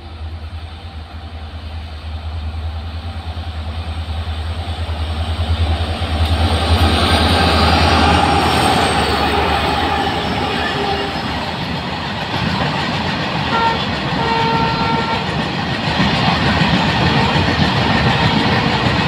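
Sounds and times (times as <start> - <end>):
diesel locomotive engine rumble: 0.0 - 19.0
train wheels on rails: 0.0 - 19.0.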